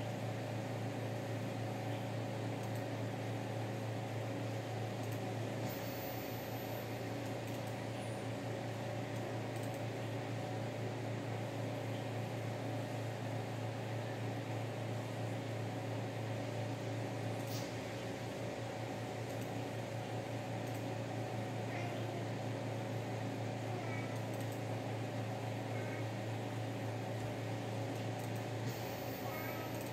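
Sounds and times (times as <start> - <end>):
pedestal fan humming: 0.0 - 29.9.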